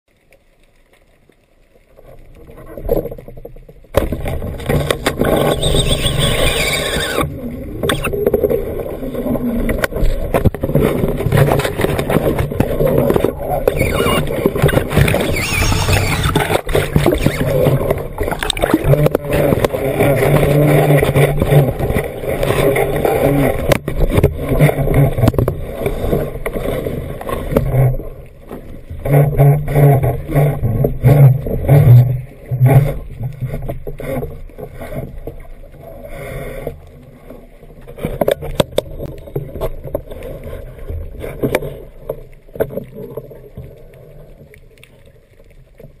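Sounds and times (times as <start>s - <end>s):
water rushing underwater: 0.1s - 46.0s.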